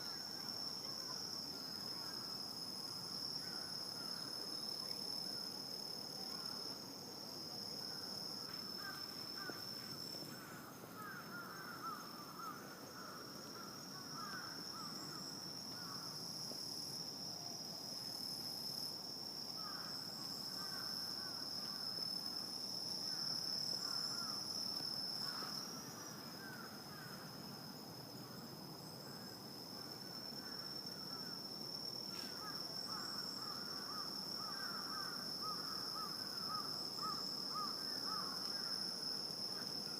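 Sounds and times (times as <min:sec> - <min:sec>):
crickets trilling: 0:00.0 - 0:39.9
rapid insect chirping: 0:00.0 - 0:39.9.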